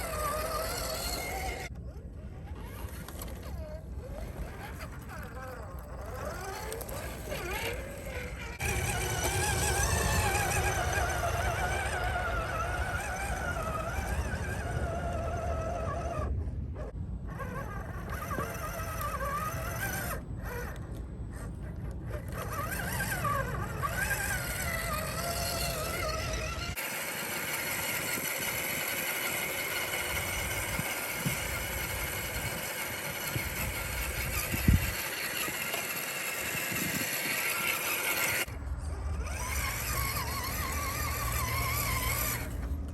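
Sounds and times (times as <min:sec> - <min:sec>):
electric motor and gear whine: 0:00.0 - 0:42.9.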